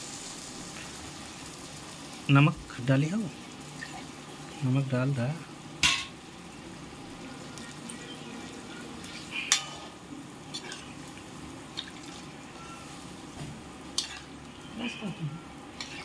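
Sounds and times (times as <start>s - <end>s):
low hiss of curry cooking: 0.0s - 16.0s.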